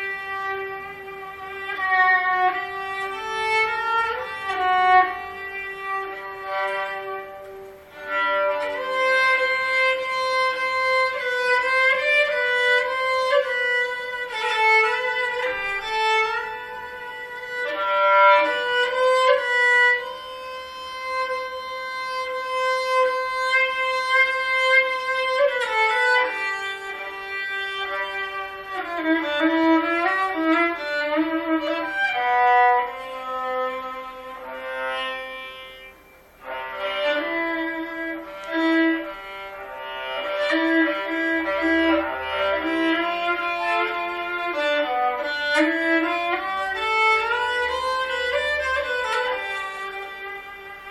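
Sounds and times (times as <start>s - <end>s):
bowed lyra melody: 0.0s - 50.9s.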